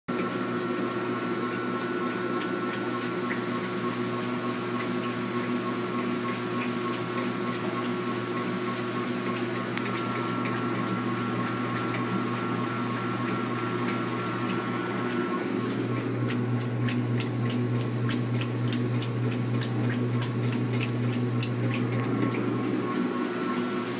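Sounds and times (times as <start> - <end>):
washing machine motor hum: 0.1 - 23.9
washing machine rattle: 1.4 - 23.9.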